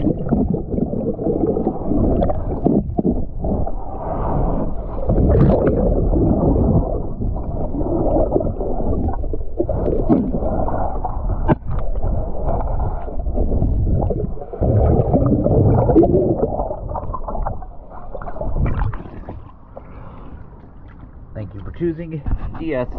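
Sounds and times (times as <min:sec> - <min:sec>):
underwater bubbles gurgling: 0:00.0 - 0:21.2.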